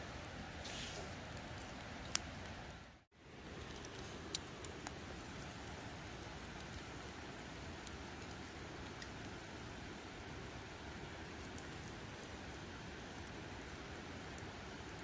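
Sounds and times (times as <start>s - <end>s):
campfire coals hissing: 0.0s - 15.0s
fire crackling pops: 0.1s - 15.0s.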